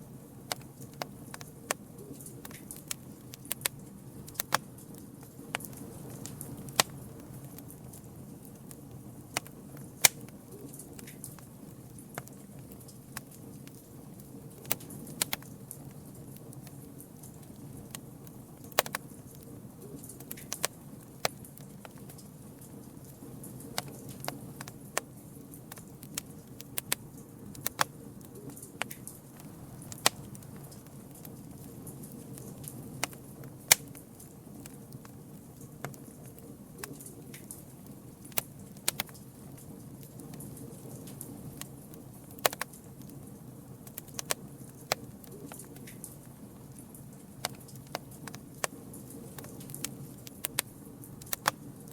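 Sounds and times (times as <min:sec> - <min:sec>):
campfire crackling and popping: 0:00.0 - 0:51.9
low rumble of burning fire: 0:00.0 - 0:51.9.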